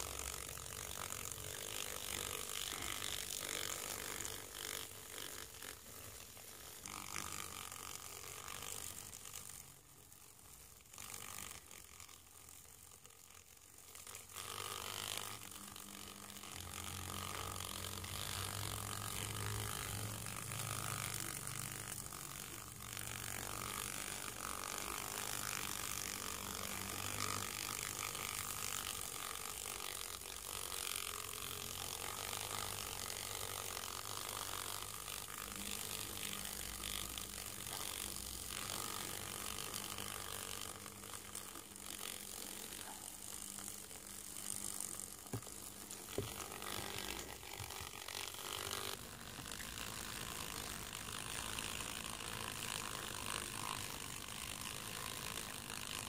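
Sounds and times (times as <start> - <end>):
moth wings fluttering on paper: 10.8 - 56.0.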